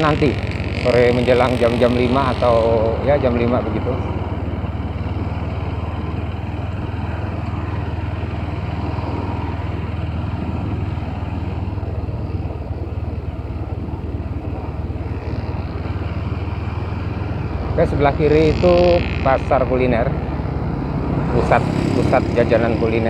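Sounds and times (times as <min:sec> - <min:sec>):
motorcycle riding rumble: 0:00.0 - 0:23.0.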